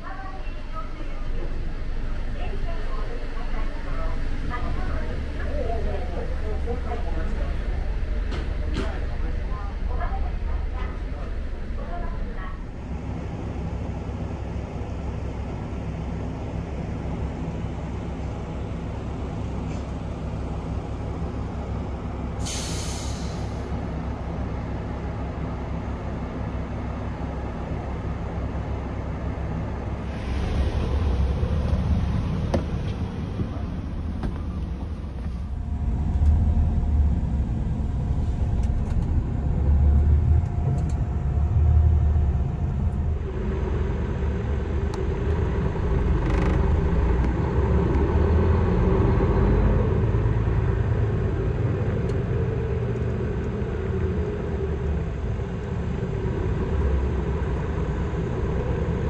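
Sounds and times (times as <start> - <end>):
engine hum: 0.0 - 59.0
vehicle rumble: 0.0 - 59.0.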